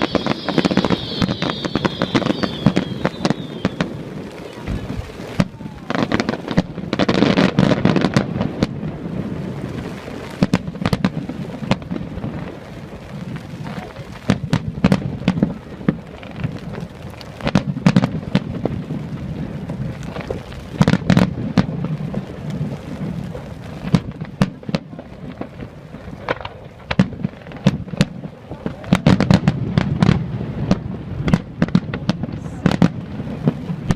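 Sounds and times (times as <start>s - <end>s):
fireworks bangs and crackles: 0.0s - 33.9s
low rumbling booms: 0.0s - 33.9s.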